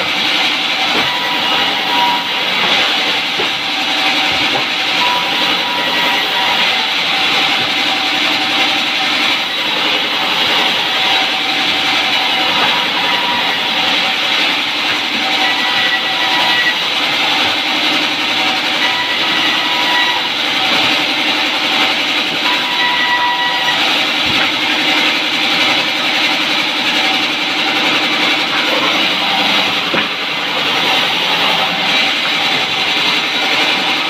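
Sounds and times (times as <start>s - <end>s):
band saw cutting log: 0.0s - 34.0s.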